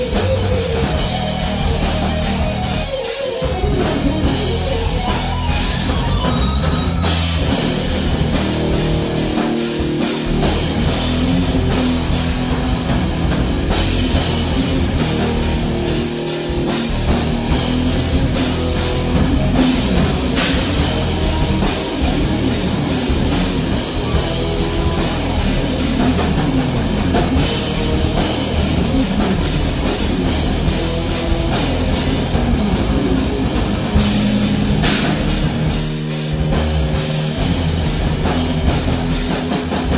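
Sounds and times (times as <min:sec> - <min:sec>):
drum kit beat: 0:00.0 - 0:39.9
rock riff on guitar: 0:00.0 - 0:39.9.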